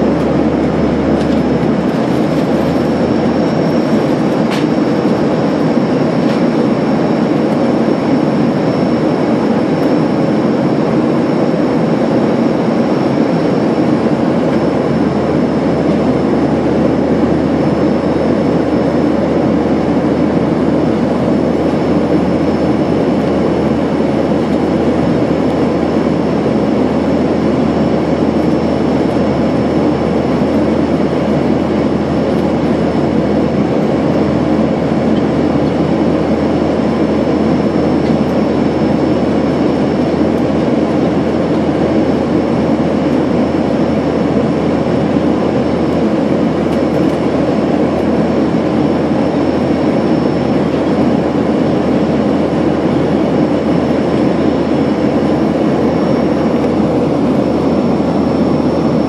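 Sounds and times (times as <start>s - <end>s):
airliner cabin rumble: 0.0s - 59.0s
faint high whine: 0.0s - 59.0s.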